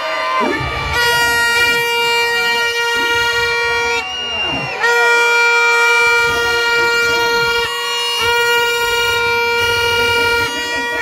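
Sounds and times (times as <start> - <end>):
horn blasts: 0.0 - 11.0.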